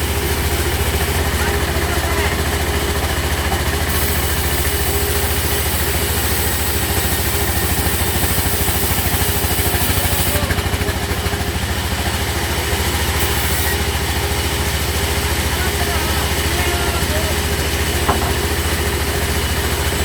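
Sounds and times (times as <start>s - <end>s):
engine throbbing: 0.0s - 20.0s.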